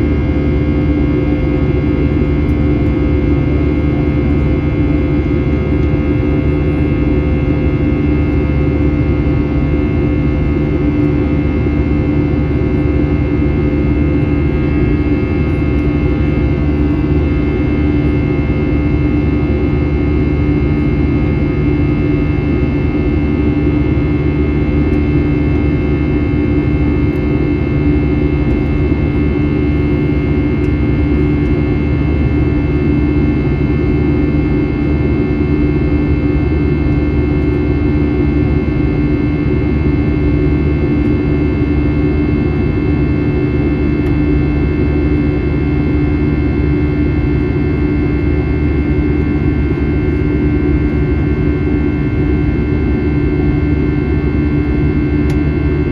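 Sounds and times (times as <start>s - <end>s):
jet engine cabin rumble: 0.0s - 55.9s.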